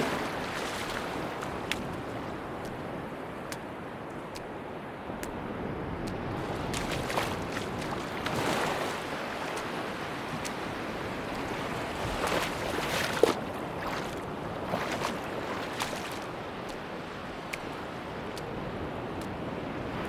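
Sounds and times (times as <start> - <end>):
sea waves washing on beach: 0.0 - 20.0
water crackles and splashes: 0.0 - 20.0.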